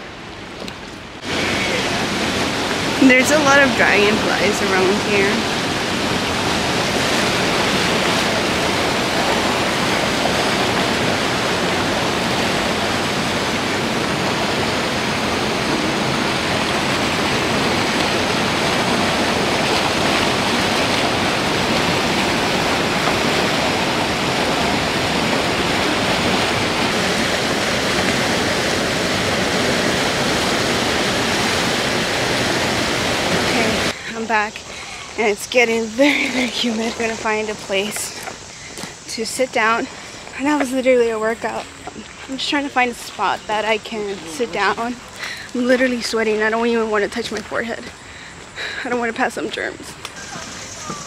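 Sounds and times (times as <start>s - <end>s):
fast-flowing water roar: 0.0s - 51.0s.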